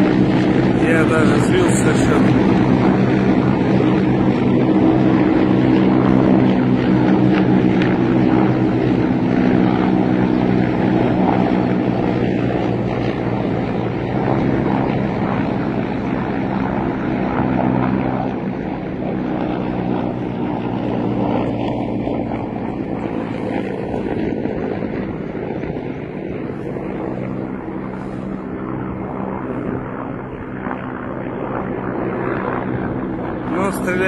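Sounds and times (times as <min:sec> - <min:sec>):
helicopters flying over: 0:00.0 - 0:34.0.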